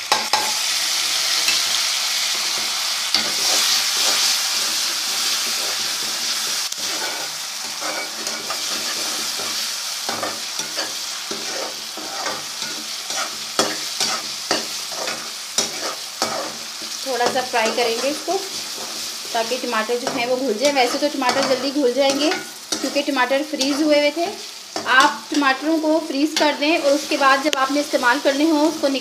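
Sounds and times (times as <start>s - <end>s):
food sizzling in hot fat: 0.0s - 29.0s
spoon stirring and scraping pan: 1.4s - 29.0s.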